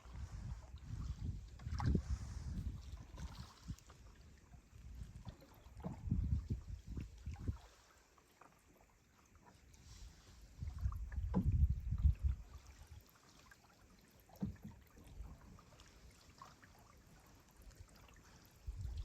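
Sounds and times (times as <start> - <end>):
paddle strokes splashing: 0.0 - 19.0.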